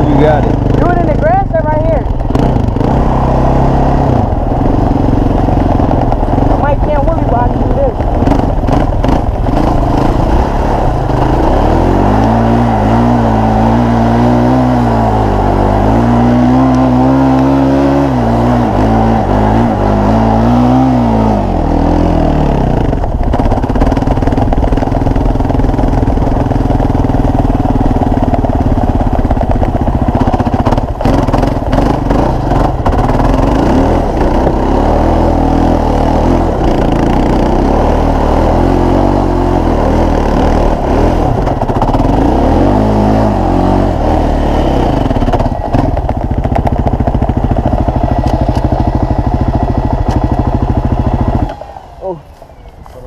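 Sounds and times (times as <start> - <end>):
small engine revving: 0.0 - 53.0.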